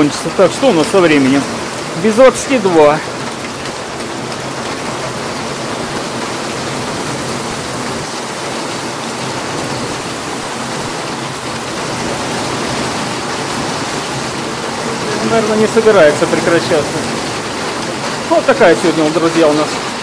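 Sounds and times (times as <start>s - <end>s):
heavy rain on wet paving: 0.0s - 20.0s.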